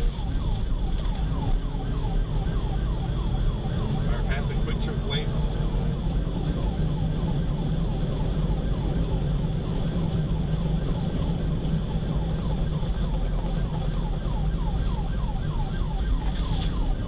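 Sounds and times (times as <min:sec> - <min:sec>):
car engine and road rumble: 0:00.0 - 0:17.0
police siren yelping: 0:00.0 - 0:17.0.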